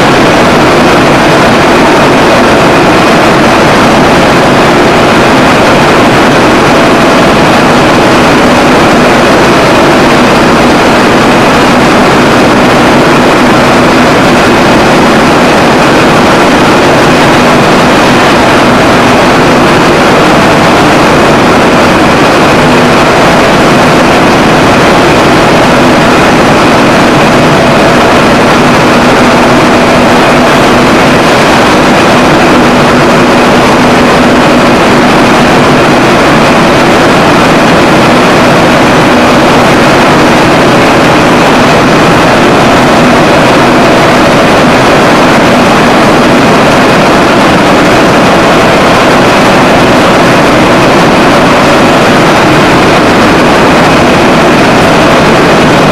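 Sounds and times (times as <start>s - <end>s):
spinning mill machinery running: 0.0s - 55.9s.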